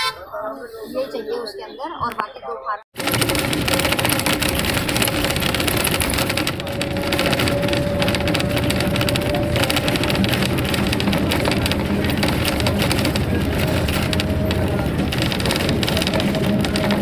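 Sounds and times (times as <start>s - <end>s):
bus engine and road noise: 3.0s - 17.0s
rattling of bus body: 3.0s - 17.0s.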